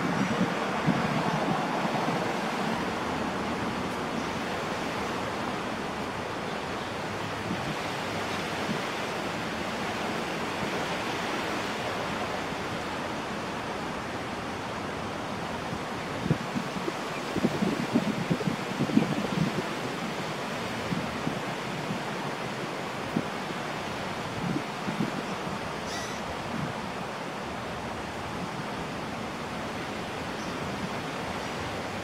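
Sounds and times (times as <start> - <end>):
wind rushing on microphone: 0.0 - 32.0.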